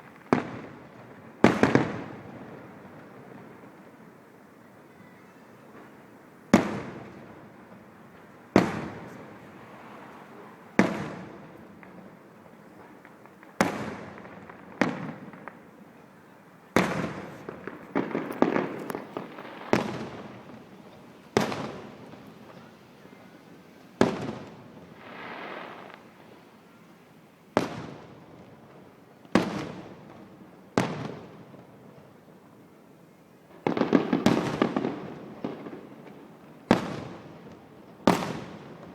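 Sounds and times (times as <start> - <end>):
fireworks bursting: 0.0 - 32.8, 33.4 - 38.9.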